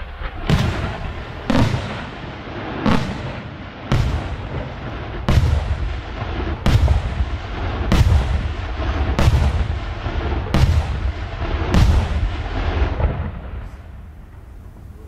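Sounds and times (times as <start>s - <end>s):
echoing rumble: 0.0s - 15.0s
firework booms: 0.0s - 15.0s.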